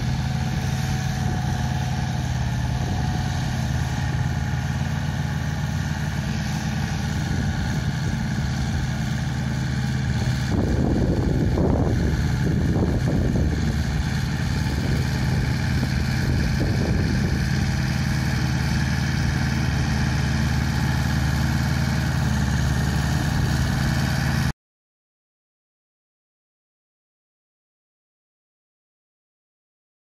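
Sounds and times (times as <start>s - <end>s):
flail mower mulching: 0.0s - 24.5s
tractor engine running under load: 0.0s - 24.5s.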